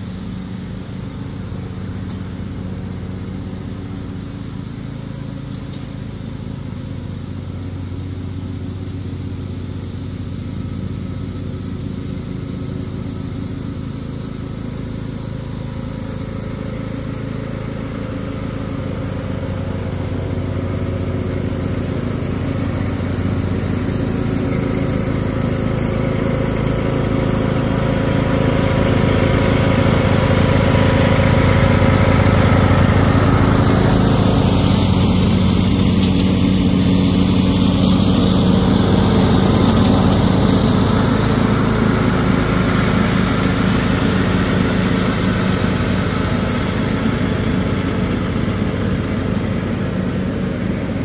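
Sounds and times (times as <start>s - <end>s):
riding lawn mower engine: 0.0s - 51.0s.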